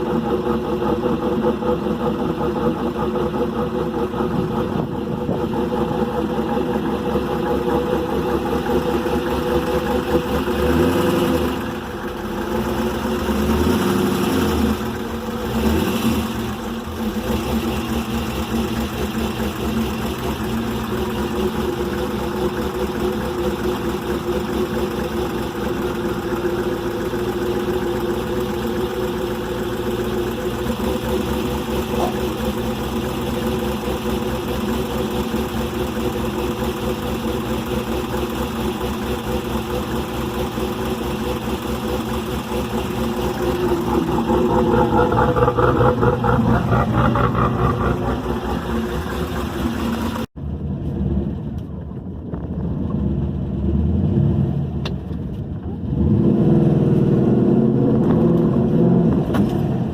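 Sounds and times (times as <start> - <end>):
car engine running steadily: 0.0 - 59.9.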